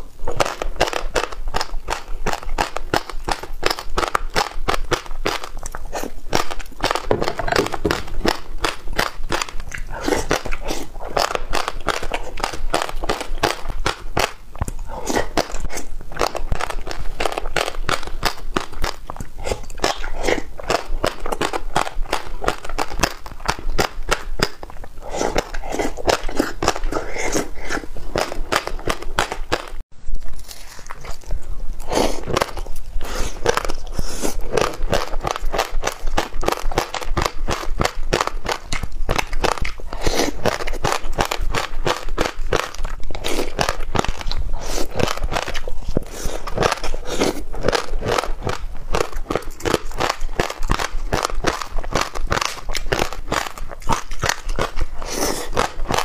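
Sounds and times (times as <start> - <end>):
chewing crunchy seeds: 0.0 - 56.0.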